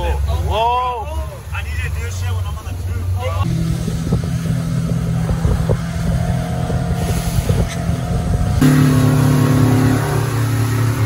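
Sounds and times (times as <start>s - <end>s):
outboard motor running: 0.0s - 11.0s
wind and water rushing: 0.0s - 11.0s.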